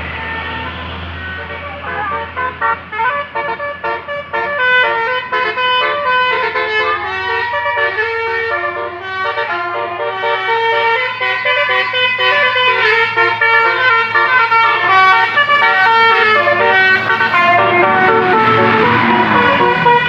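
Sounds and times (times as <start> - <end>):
musical bus horn melody: 0.0 - 20.0.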